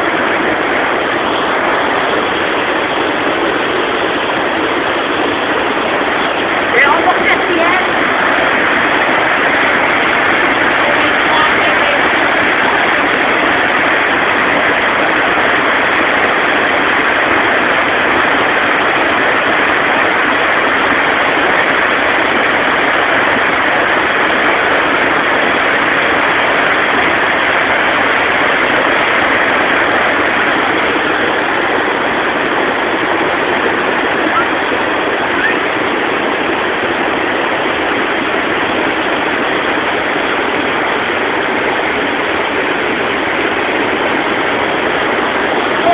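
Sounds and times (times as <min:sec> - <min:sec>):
water rushing over a weir: 0:00.0 - 0:45.9.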